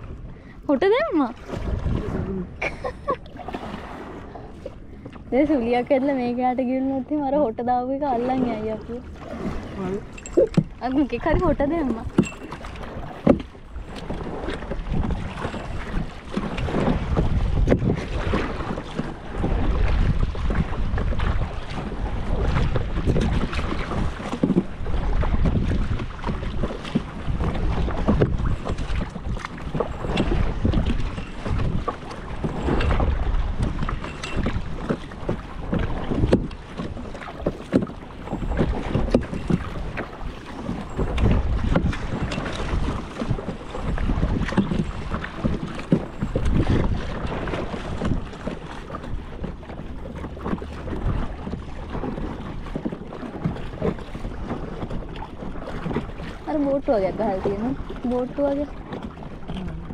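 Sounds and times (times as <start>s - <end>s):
paddle splashing in water: 0.0s - 59.9s
wind buffeting microphone: 0.0s - 59.9s.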